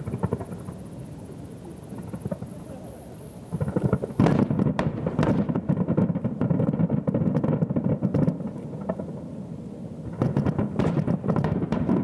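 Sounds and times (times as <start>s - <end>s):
distant fireworks rumble: 0.0s - 12.0s
fireworks crackles and pops: 0.0s - 12.0s.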